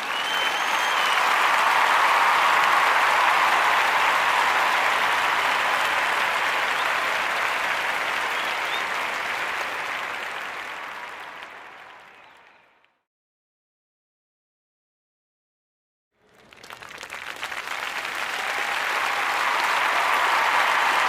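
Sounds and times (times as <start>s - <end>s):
crowd applause: 0.0s - 12.9s, 16.2s - 21.0s.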